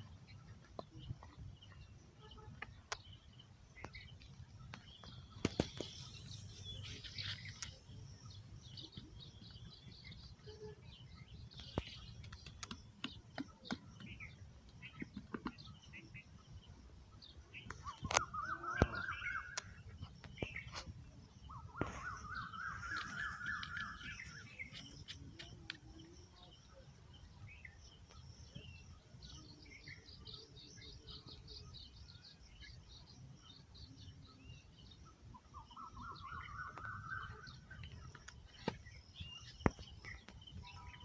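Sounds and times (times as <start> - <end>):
birds calling and chirping: 0.0 - 41.0.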